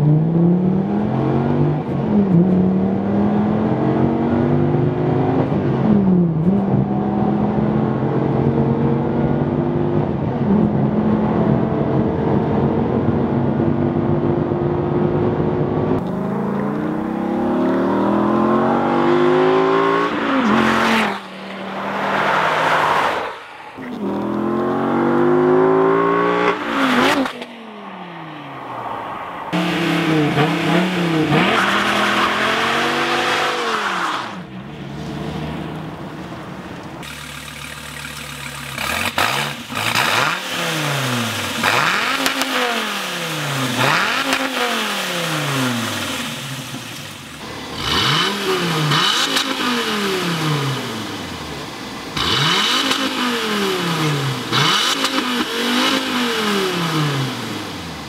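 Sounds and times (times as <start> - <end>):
car engine revving and idling: 0.0 - 28.6, 29.5 - 58.0.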